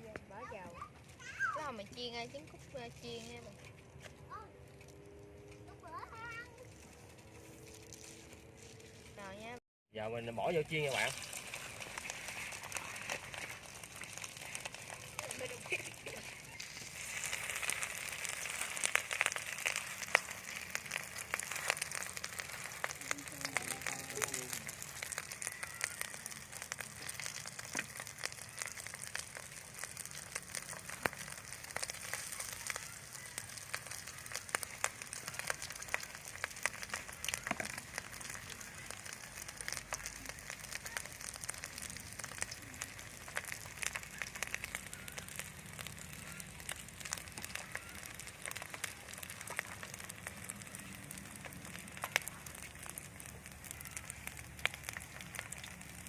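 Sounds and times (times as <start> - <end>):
food deep-frying in oil: 0.0 - 56.0.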